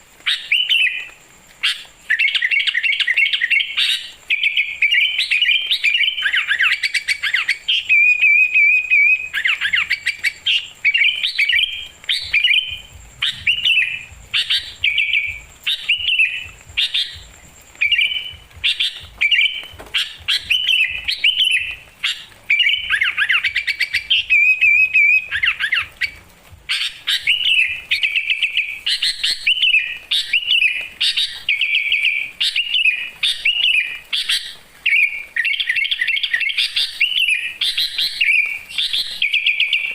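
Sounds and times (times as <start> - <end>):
songbird chirping and trilling: 0.1 - 39.9.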